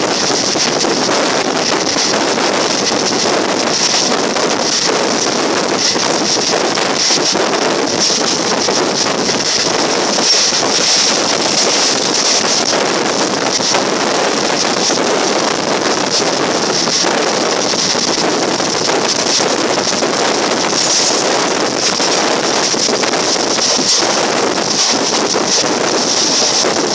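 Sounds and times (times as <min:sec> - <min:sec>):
rushing wind: 0:00.0 - 0:26.9
train running at speed: 0:00.0 - 0:26.9
wind buffeting microphone: 0:00.0 - 0:26.9.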